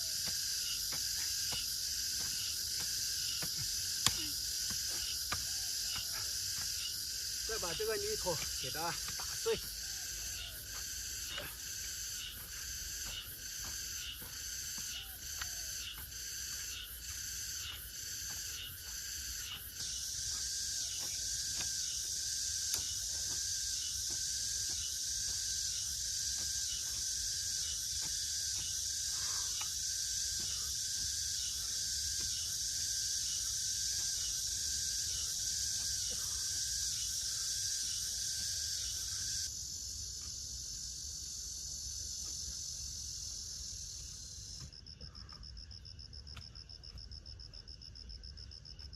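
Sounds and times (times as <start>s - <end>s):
insect chorus buzzing: 0.0s - 48.9s.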